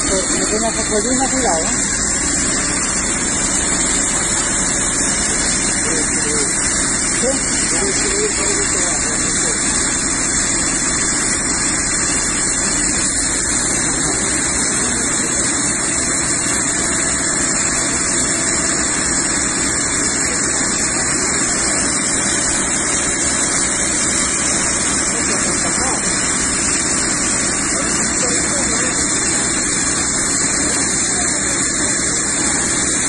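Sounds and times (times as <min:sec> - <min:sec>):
engine running: 0:00.0 - 0:33.0
fire hose spraying water: 0:00.0 - 0:33.0.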